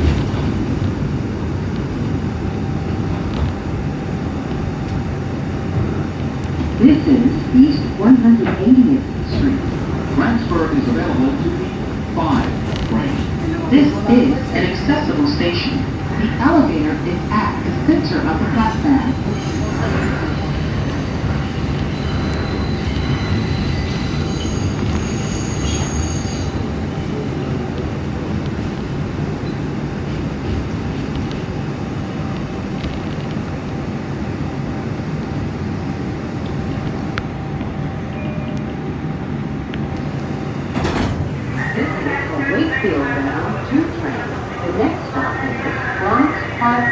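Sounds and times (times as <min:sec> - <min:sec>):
rumble of wheels on rails: 0:00.0 - 0:46.9.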